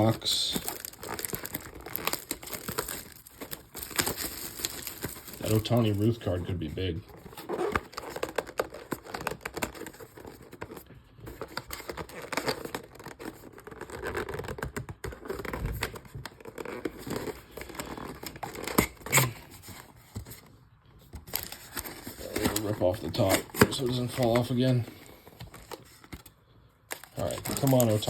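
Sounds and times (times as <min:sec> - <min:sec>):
wrapping tearing and crinkling: 0:00.0 - 0:20.4, 0:21.2 - 0:28.0.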